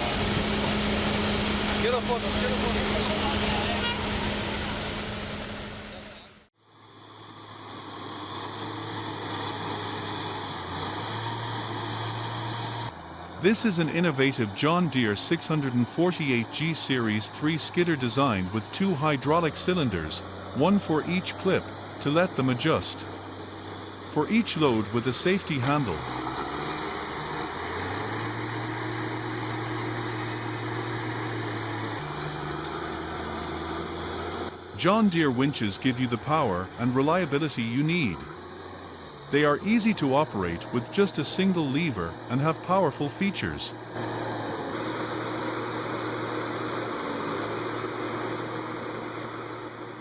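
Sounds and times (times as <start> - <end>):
vehicle engine humming: 0.0 - 50.0.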